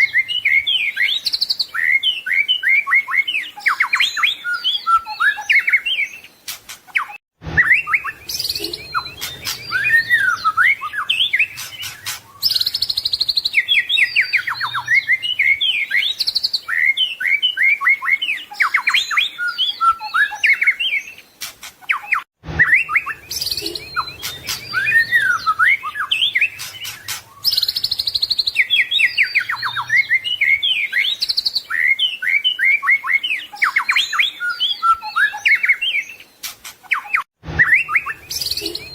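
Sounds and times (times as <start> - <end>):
songbird singing fast varied song: 0.0 - 38.9.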